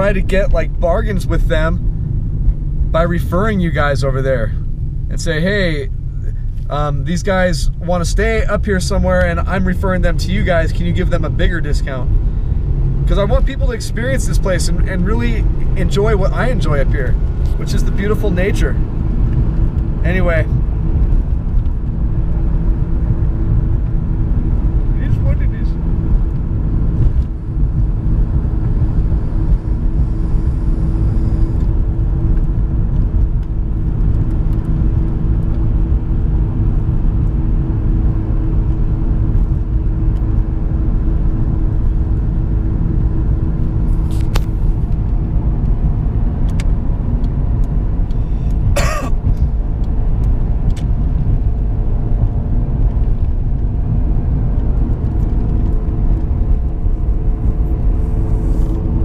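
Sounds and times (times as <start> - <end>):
engine and road rumble: 0.0 - 59.0.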